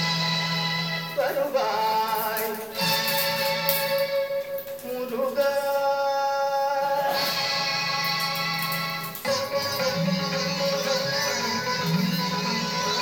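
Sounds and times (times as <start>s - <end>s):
instrumental accompaniment: 0.0s - 13.0s
person singing long notes: 1.1s - 13.0s.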